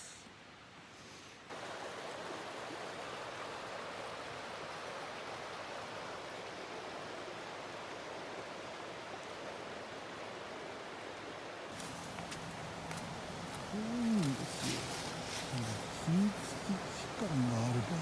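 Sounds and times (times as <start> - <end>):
stream water rushing: 1.5 - 18.0.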